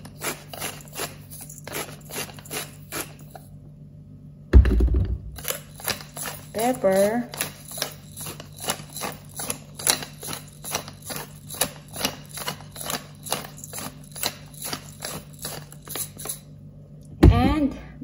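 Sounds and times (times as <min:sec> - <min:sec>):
pepper rattling in shaker: 0:00.0 - 0:03.5, 0:05.4 - 0:16.5.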